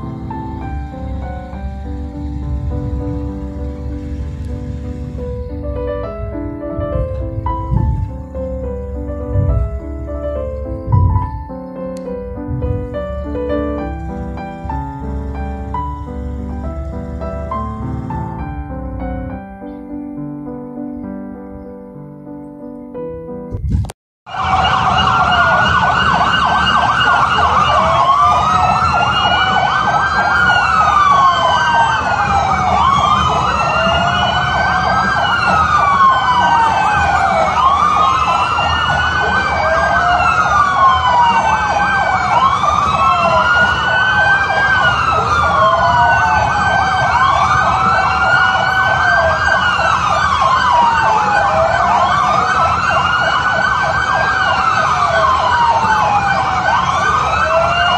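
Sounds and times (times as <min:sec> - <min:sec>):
sirens wailing: 0:00.0 - 0:19.4, 0:24.3 - 0:57.9.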